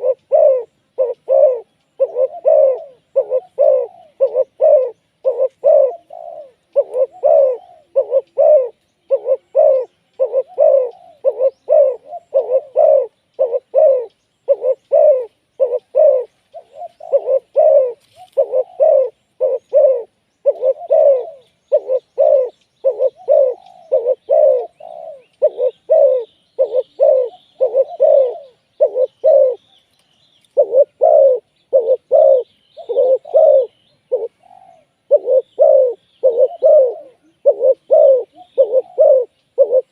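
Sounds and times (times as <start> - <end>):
doves cooing: 0.0 - 29.7, 30.4 - 39.9
small birds chirping: 0.0 - 39.9.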